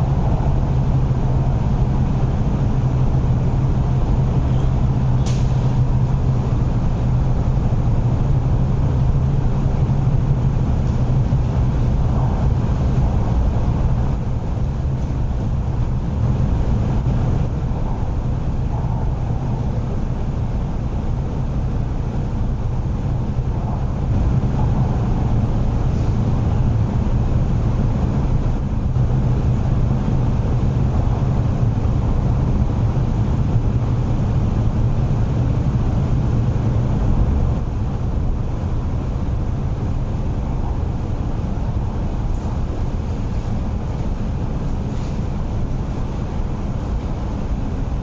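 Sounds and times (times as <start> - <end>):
train rumble from inside car: 0.0 - 48.0.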